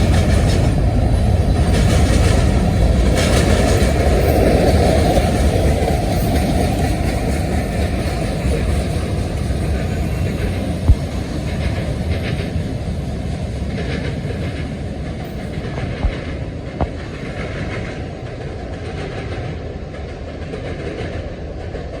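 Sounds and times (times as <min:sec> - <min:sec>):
freight train cars rolling: 0:00.0 - 0:22.0.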